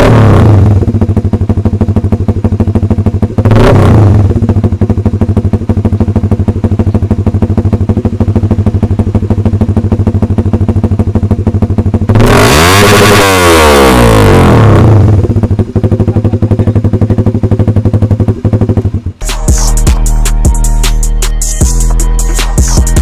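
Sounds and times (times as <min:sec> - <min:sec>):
engine revving: 0:00.0 - 0:23.0
motorcycle engine idling: 0:00.1 - 0:23.0.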